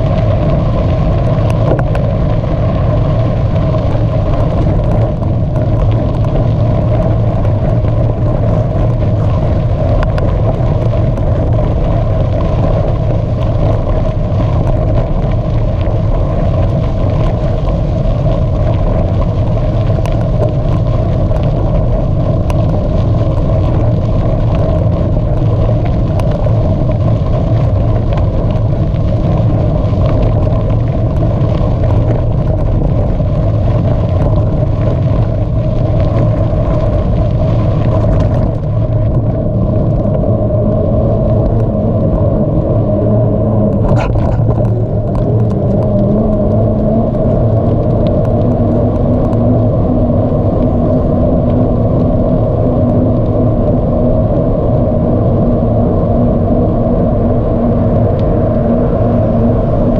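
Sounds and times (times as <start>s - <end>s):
bicycle tyre noise: 0.0s - 59.9s
wind on microphone: 0.0s - 59.9s.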